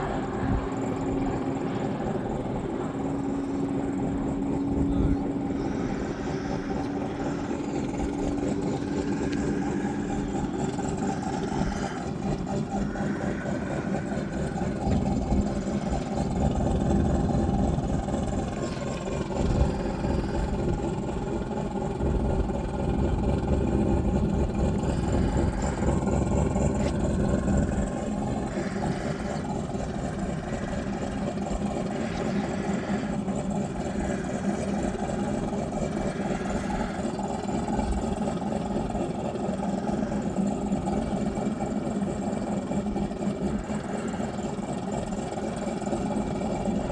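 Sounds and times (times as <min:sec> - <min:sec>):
race car engines idling: 0:00.0 - 0:46.9.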